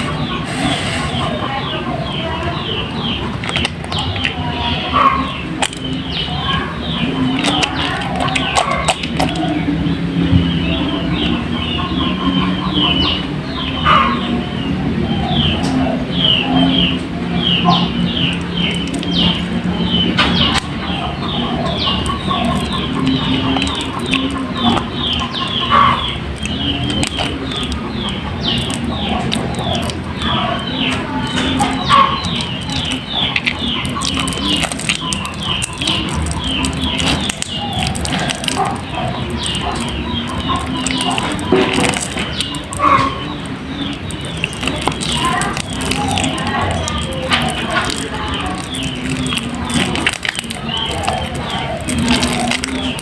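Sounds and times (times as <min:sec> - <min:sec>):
bird chirps: 0:00.0 - 0:53.0
steady low hum: 0:00.0 - 0:53.0.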